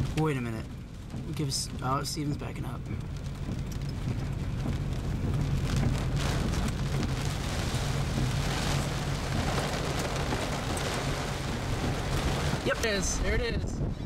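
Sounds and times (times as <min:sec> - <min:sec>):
heavy rain on vehicle roof: 0:00.0 - 0:13.8
low vehicle hum: 0:00.0 - 0:14.0.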